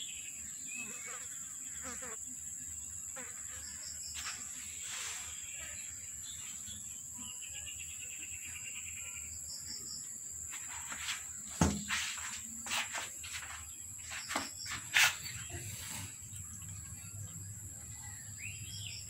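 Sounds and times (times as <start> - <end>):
rapid insect trill: 0.0 - 19.0.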